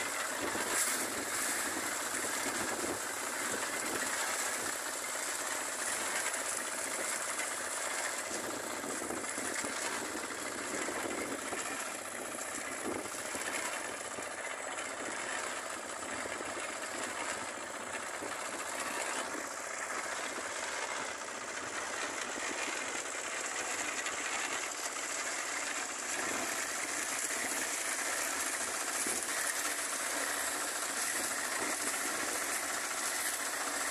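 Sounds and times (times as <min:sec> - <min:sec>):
concrete mixer engine running: 0:00.0 - 0:33.9.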